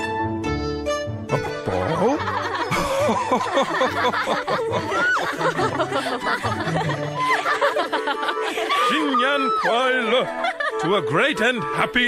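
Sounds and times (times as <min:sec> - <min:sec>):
people laughing: 0:01.3 - 0:11.1.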